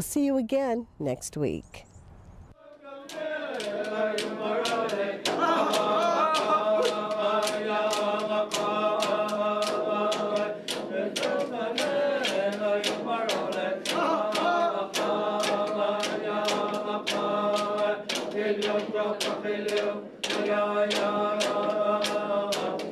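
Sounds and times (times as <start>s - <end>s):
voices chanting together: 2.6s - 22.9s
steady drumbeat: 3.1s - 22.9s.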